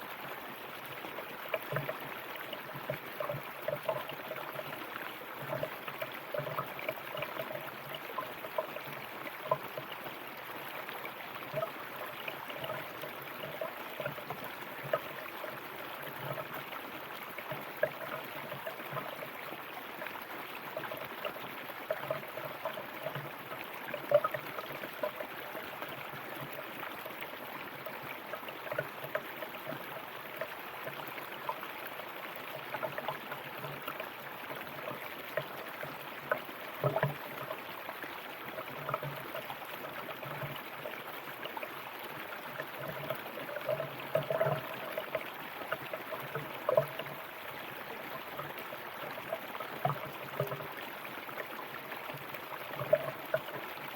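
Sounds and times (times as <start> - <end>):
river water flowing: 0.0 - 53.9
water gurgling and splashing: 0.0 - 53.9.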